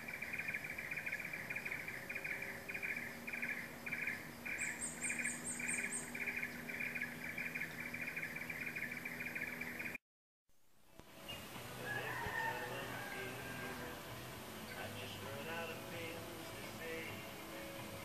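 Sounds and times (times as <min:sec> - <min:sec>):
shrill pulsing animal chorus: 0:00.0 - 0:10.0, 0:11.2 - 0:18.0.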